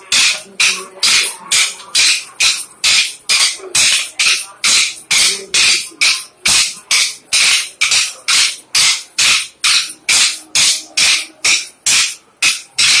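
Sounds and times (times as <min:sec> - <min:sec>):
dance sticks clacking: 0:00.0 - 0:13.0.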